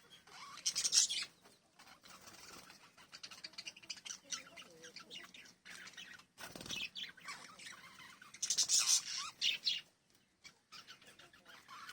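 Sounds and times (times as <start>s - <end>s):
parrots chirping: 0.0s - 11.9s.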